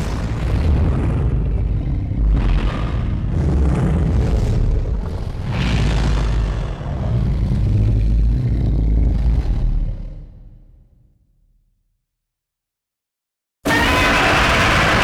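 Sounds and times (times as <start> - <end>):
deep monster growl: 0.0 - 10.8, 13.7 - 15.0.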